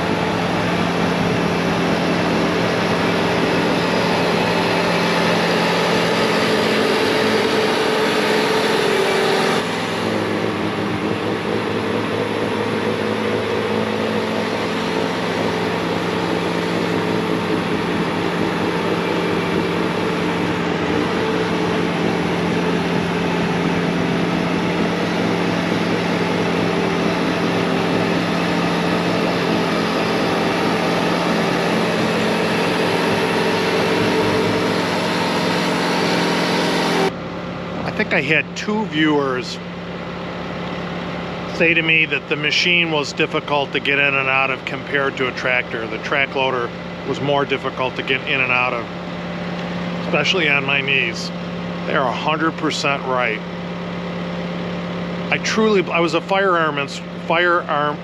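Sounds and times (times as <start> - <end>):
diesel engine at full throttle: 0.0 - 58.0.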